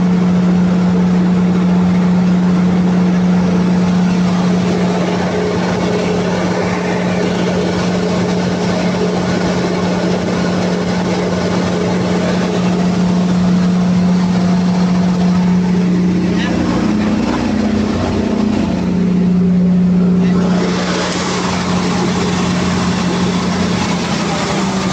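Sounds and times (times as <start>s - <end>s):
diesel generator engine droning: 0.0s - 24.9s.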